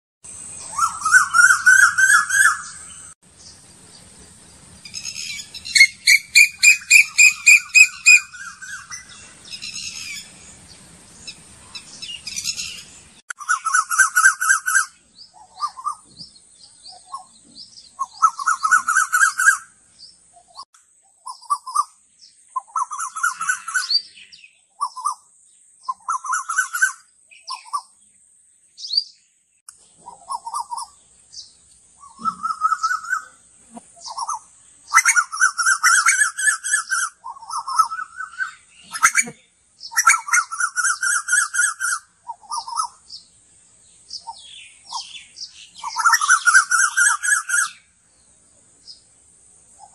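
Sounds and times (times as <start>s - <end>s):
bird singing trilled chirps: 0.3s - 49.1s.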